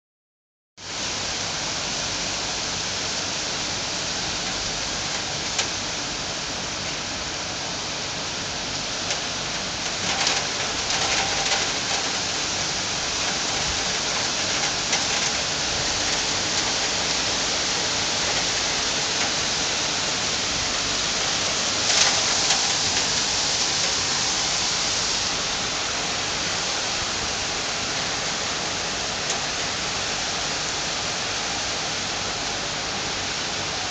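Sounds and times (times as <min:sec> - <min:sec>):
heavy rain on pavement and trees: 0:00.8 - 0:33.9.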